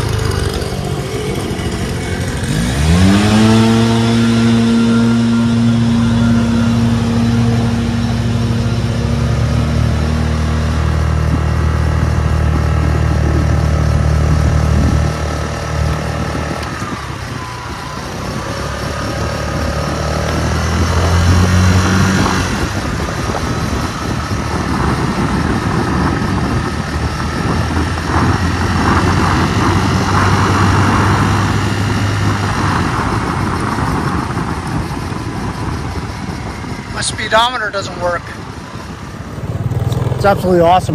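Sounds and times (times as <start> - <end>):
motor scooter engine running: 0.0 - 40.9.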